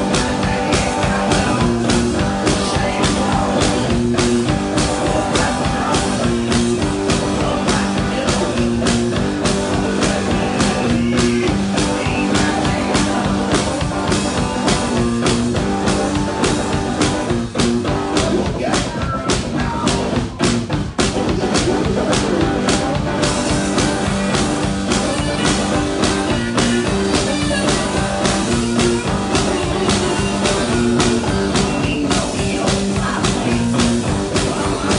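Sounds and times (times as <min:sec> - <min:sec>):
drum beat: 0:00.0 - 0:34.9
guitar chords: 0:00.0 - 0:34.9.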